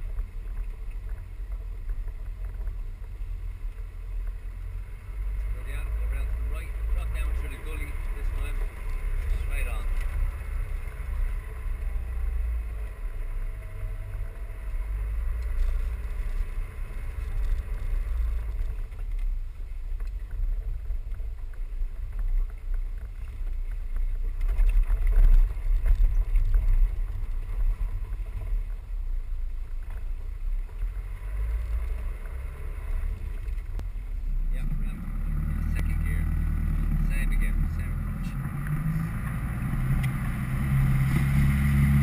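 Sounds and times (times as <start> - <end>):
vehicle engine and tyres rumbling: 0.0 - 42.0.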